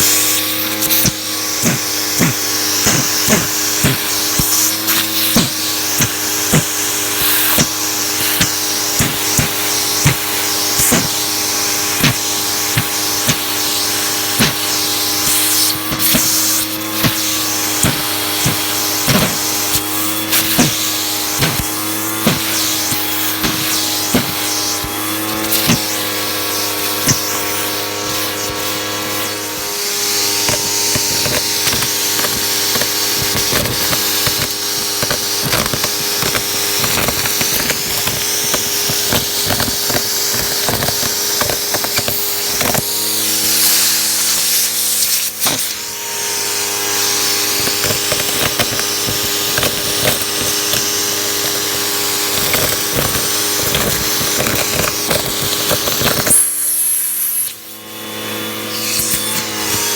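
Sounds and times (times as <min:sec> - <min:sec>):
vacuum cleaner motor humming: 0:00.0 - 0:59.9.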